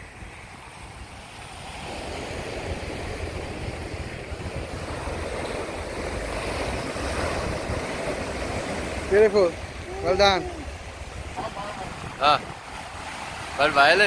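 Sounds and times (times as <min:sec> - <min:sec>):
wind rumbling on microphone: 0:00.0 - 0:14.0
surf breaking on rocks: 0:01.6 - 0:14.0.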